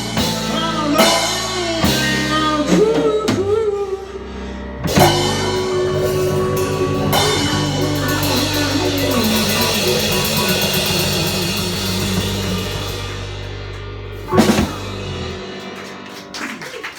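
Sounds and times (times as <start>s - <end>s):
rock band music: 0.0s - 16.4s.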